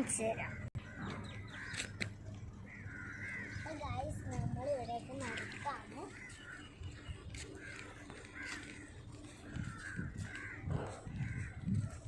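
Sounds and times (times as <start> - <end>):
crows cawing: 0.4 - 12.0.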